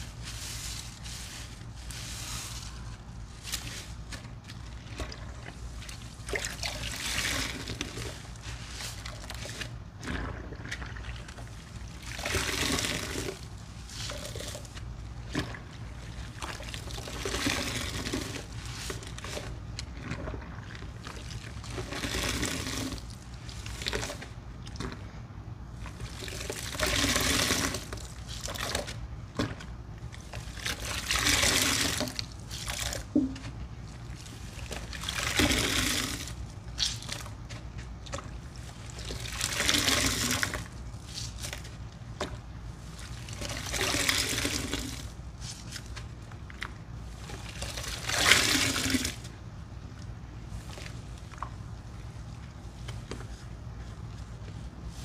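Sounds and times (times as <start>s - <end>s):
soapy liquid trickling: 0.0s - 55.0s
sponge being squeezed: 0.0s - 55.0s.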